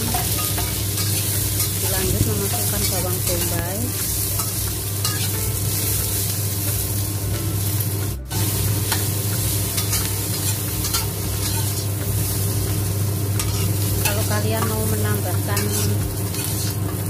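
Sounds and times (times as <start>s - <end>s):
metal spatula scraping wok: 0.0s - 6.3s, 8.3s - 12.6s, 13.4s - 17.0s
vegetables sizzling in oil: 0.0s - 17.0s.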